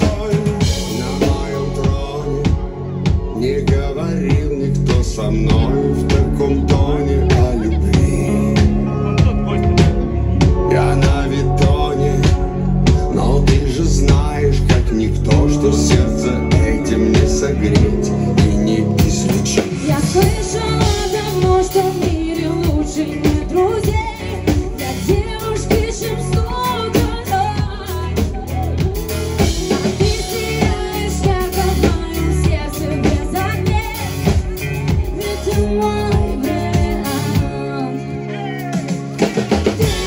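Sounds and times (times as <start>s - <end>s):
woman singing: 0.0s - 9.1s, 10.4s - 40.0s
pop music with drum beat: 0.0s - 40.0s.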